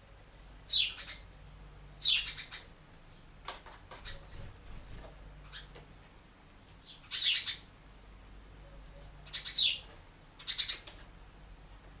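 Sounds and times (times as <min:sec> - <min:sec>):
sparrows chirping: 0:00.6 - 0:11.9.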